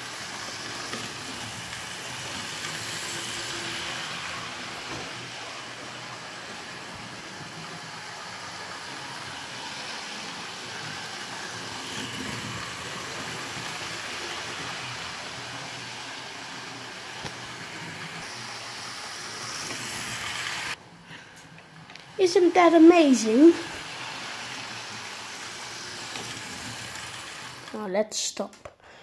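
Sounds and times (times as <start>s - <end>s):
model train motor whirring on track: 0.0s - 27.9s.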